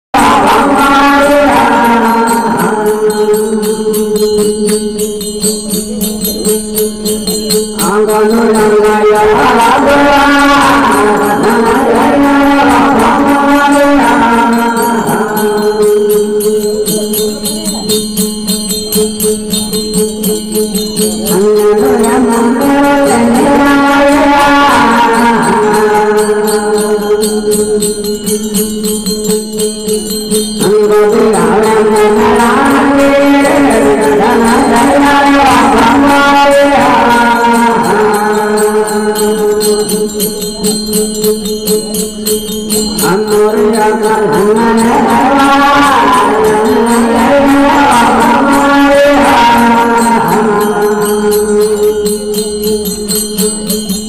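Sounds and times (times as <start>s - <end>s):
fast jingling percussion: 0.1s - 54.0s
wavering melody: 0.2s - 54.0s.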